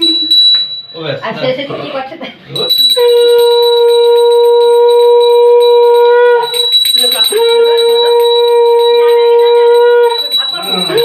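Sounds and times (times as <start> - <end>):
hand bell ringing: 0.0 - 1.3, 2.6 - 11.0.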